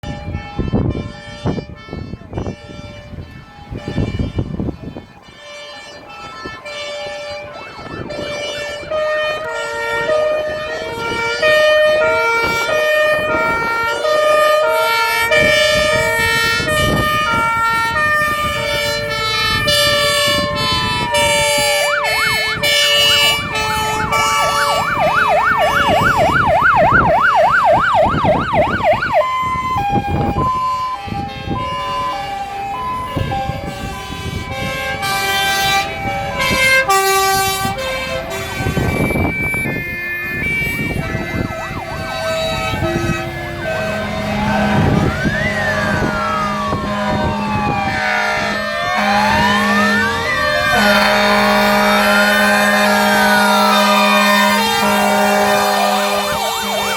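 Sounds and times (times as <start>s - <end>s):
siren yelp: 0.0s - 56.9s
two-tone fire engine sirens: 0.0s - 56.9s.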